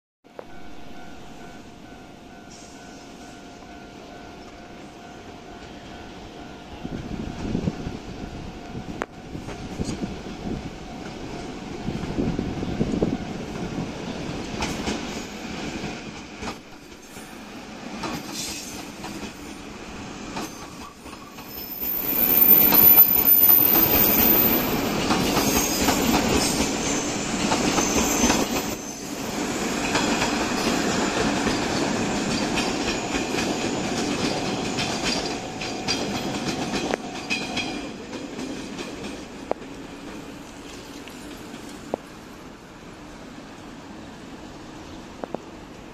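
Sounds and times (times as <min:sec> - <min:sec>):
electric train passing: 0:00.4 - 0:45.9.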